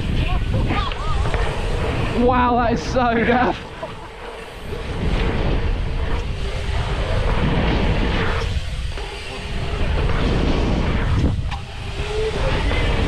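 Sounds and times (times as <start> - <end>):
bike tyres rumbling on dirt: 0.0 - 13.0
wind rushing over microphone: 0.0 - 13.0.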